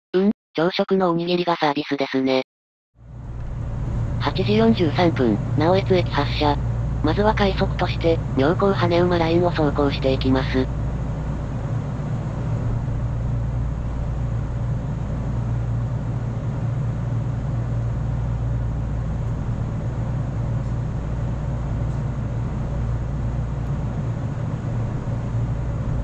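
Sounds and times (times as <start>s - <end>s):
train motors humming and rumbling: 3.0s - 26.0s.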